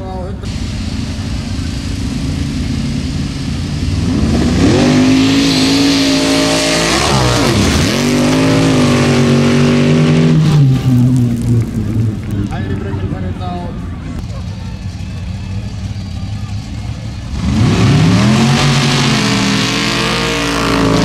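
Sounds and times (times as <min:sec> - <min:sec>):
racing car engines revving: 0:00.3 - 0:21.0.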